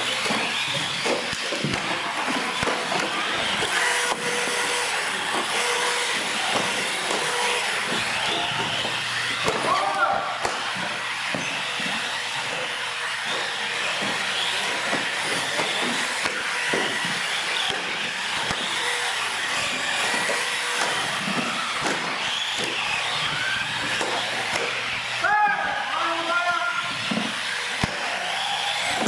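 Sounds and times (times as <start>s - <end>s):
toy truck motors whining: 0.0s - 29.0s.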